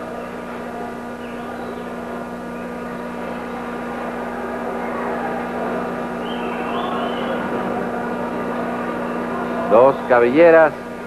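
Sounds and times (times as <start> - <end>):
arena crowd noise: 0.0 - 11.0
electrical mains hum: 0.0 - 11.0.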